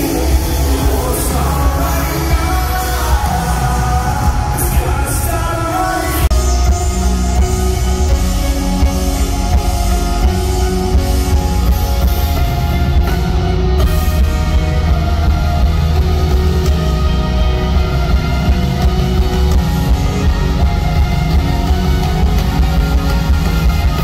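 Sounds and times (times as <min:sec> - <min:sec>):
bass guitar: 0:00.0 - 0:24.0
electric guitars: 0:00.0 - 0:24.0.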